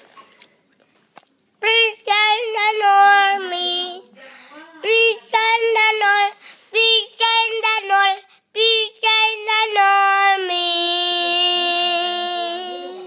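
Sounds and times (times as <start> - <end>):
young child singing: 1.6 - 13.0.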